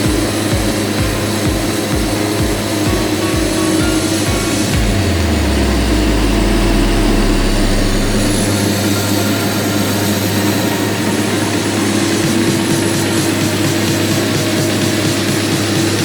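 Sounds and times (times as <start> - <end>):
excavator diesel engine running: 0.0 - 16.0
faint high whine: 0.0 - 16.0.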